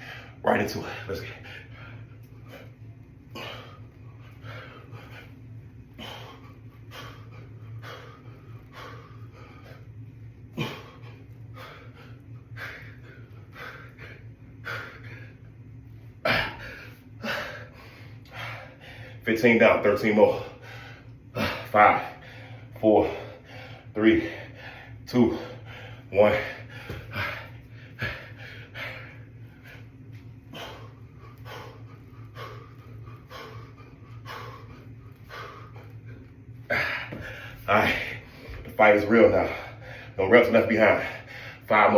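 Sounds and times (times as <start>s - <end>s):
man breathing hard: 0.0s - 19.3s, 20.1s - 41.7s
steady low hum: 0.0s - 41.9s.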